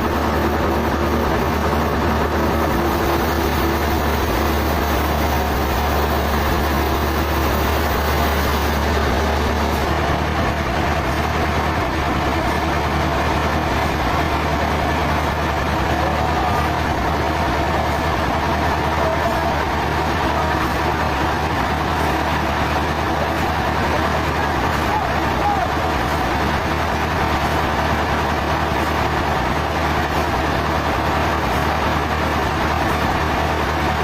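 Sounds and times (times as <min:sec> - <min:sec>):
sawmill machinery droning: 0:00.0 - 0:34.0.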